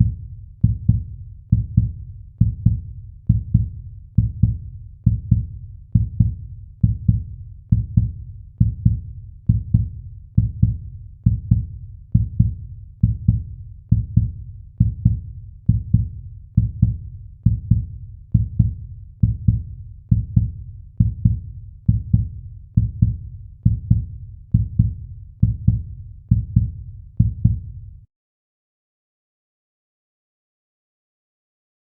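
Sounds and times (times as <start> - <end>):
heartbeat double thumps: 0.0 - 27.8.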